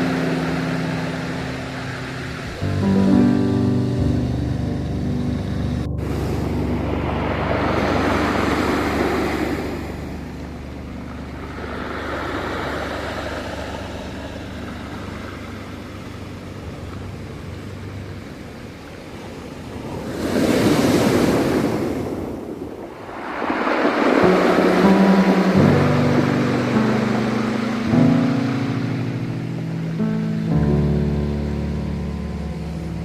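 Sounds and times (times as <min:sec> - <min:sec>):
ocean waves breaking: 0:00.0 - 0:33.0.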